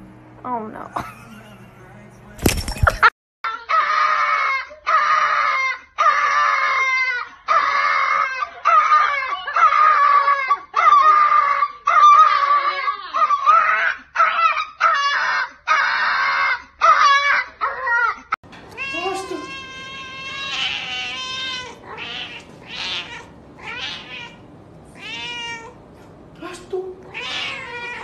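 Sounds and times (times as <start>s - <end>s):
small dog crying: 3.5s - 24.4s, 25.0s - 25.8s, 27.1s - 28.0s.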